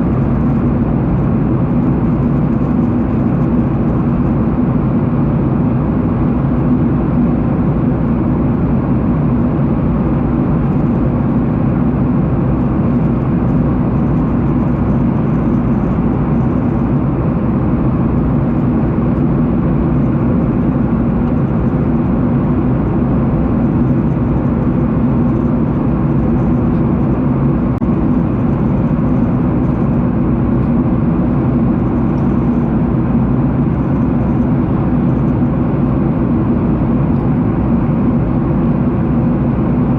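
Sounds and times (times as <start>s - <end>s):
faint steady hum: 0.0s - 39.9s
jet engines and airflow rumble: 0.0s - 39.9s.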